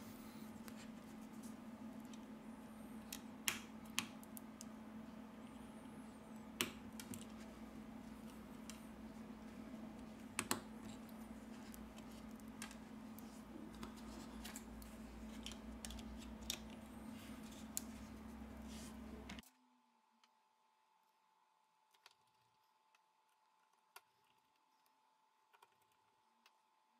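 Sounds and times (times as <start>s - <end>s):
faint electrical hum: 0.0s - 26.9s.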